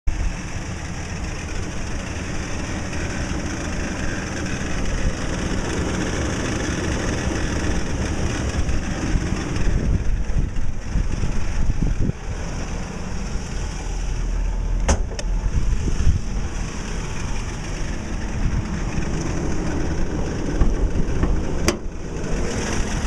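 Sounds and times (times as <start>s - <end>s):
car engine running: 0.1s - 23.0s
drive belt grinding: 0.1s - 23.0s.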